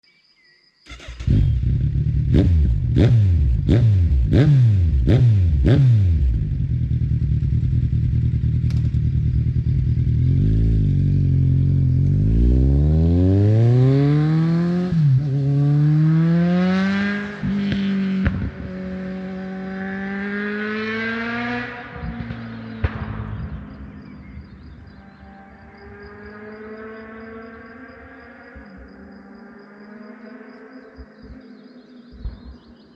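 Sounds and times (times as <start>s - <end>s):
motorcycle engine revving: 0.9s - 31.4s.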